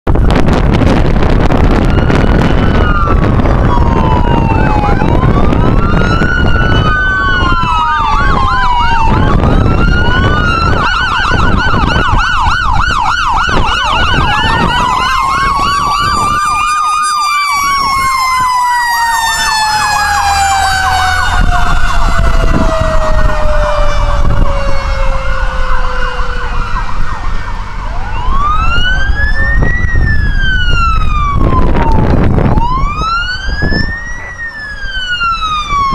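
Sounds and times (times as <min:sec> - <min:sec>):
emergency vehicle sirens: 0:00.1 - 0:35.9
low vehicle rumble: 0:00.1 - 0:35.9.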